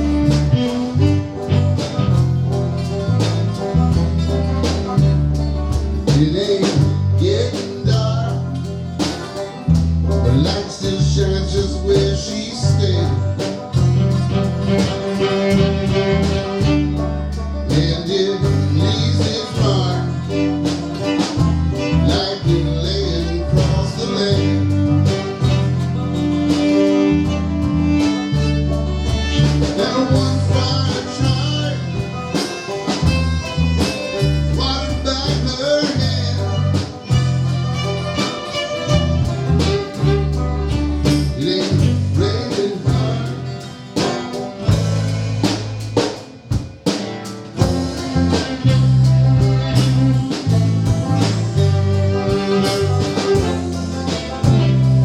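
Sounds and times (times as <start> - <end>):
lead guitar: 0.0 - 55.0
steady drum beat: 0.0 - 55.0
walking bass line: 0.0 - 55.0.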